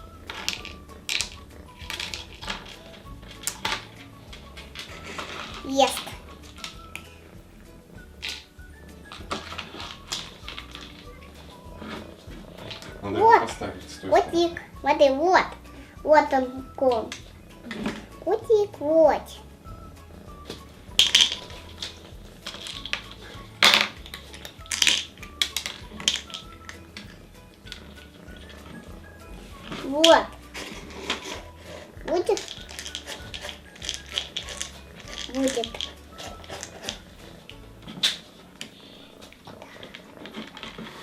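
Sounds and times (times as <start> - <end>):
quiet background music: 0.0 - 41.0.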